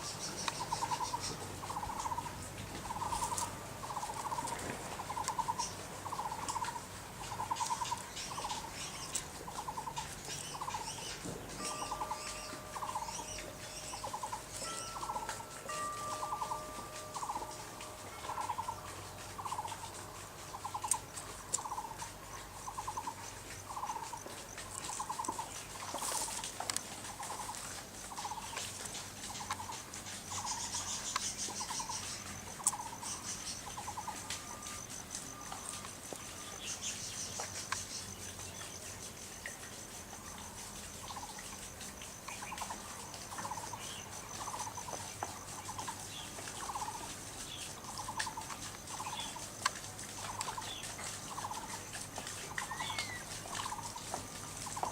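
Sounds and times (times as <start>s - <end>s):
rattling animal call: 0.0s - 38.8s, 39.5s - 54.9s.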